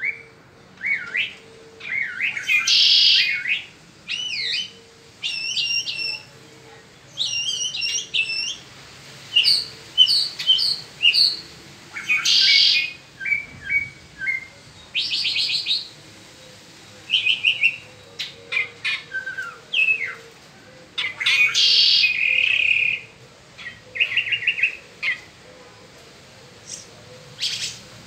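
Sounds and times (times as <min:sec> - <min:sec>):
mockingbird singing: 0:00.0 - 0:06.4, 0:07.1 - 0:08.6, 0:09.3 - 0:15.9, 0:17.0 - 0:25.4, 0:26.6 - 0:28.0.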